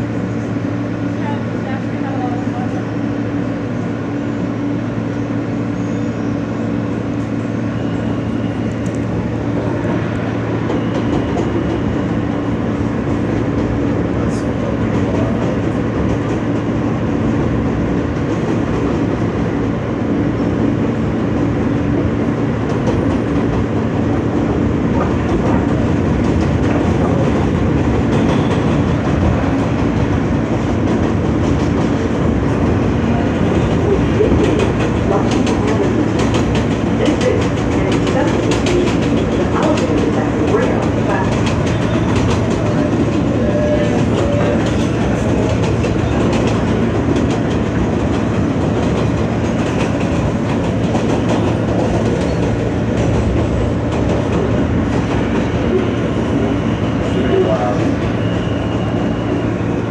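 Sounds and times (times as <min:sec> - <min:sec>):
subway car humming: 0:00.0 - 0:59.9
wheels clacking on rails: 0:05.0 - 0:59.9.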